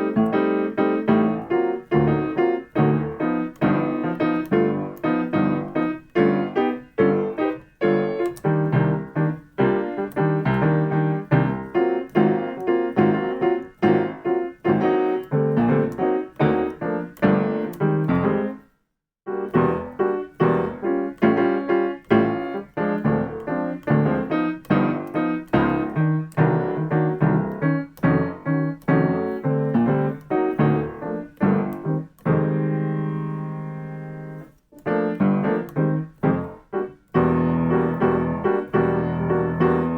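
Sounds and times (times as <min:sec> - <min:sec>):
jazz piano chord stabs: 0:00.0 - 0:18.6, 0:19.3 - 0:39.9.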